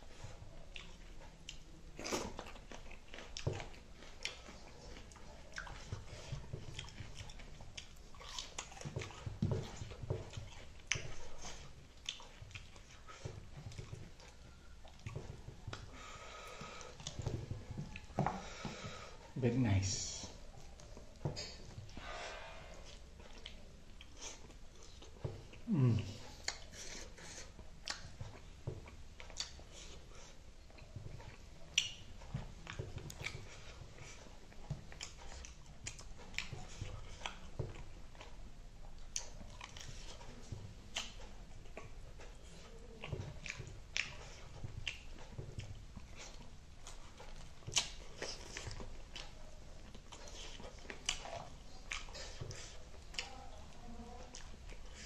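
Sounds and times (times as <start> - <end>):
person chewing and smacking: 0.0 - 22.0, 22.8 - 55.0.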